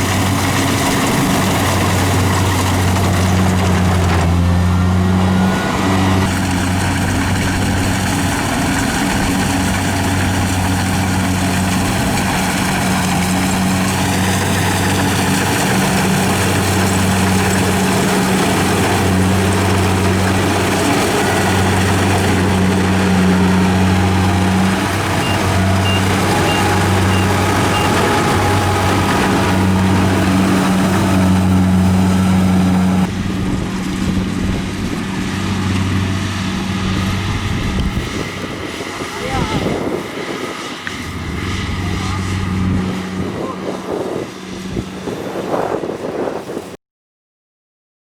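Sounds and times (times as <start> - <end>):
harvester engine droning: 0.0 - 46.7.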